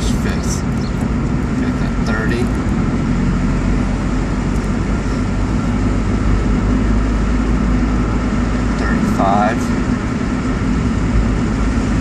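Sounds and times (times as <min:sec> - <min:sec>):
car engine drone: 0:00.0 - 0:12.0
road and tyre noise: 0:00.0 - 0:12.0.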